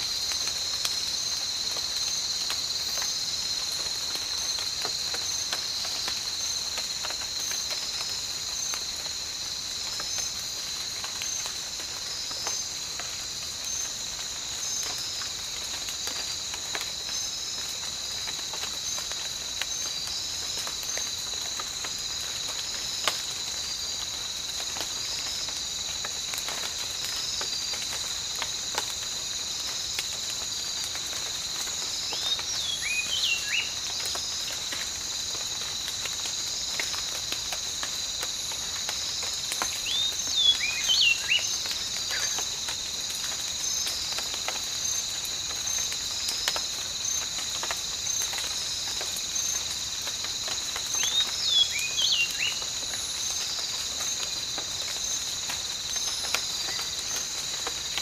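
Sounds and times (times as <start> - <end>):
pulsing insect chorus: 0.0 - 58.0
raindrops ticking and dripping: 0.0 - 58.0.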